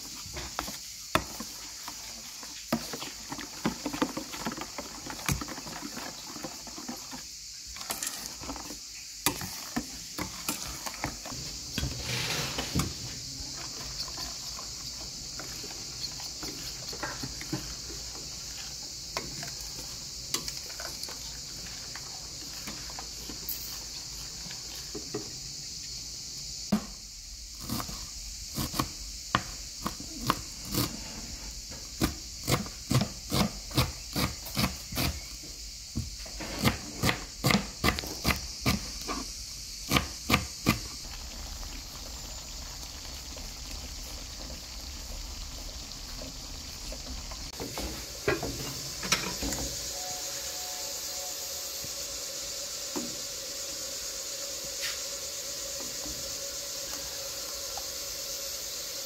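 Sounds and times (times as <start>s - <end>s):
sauce simmering in a pan: 0.0s - 26.7s, 27.3s - 59.0s.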